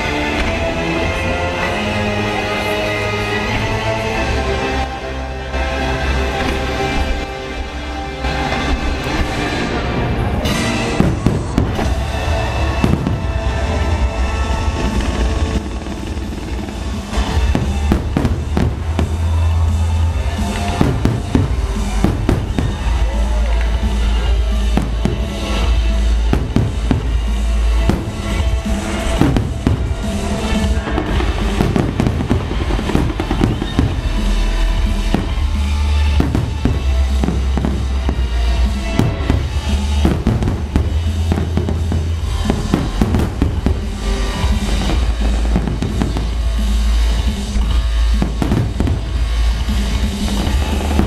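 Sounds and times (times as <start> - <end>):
loud music with drums and bass: 0.0 - 51.0.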